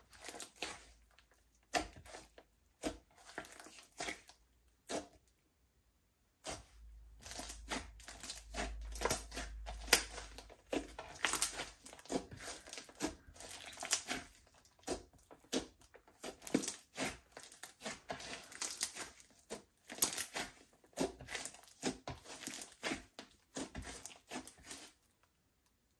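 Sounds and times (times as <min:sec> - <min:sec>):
slime squished by hand: 0:00.0 - 0:05.3, 0:06.4 - 0:25.1.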